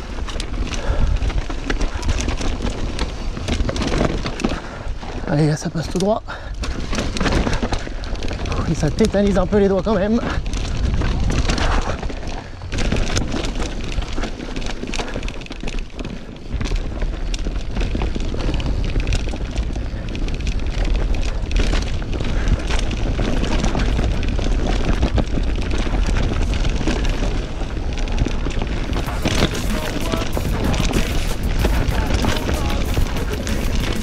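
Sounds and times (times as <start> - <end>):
bike knocking and clattering: 0.0 - 34.0
bike tyres crunching over dirt: 0.0 - 34.0
wind buffeting microphone: 6.6 - 34.0.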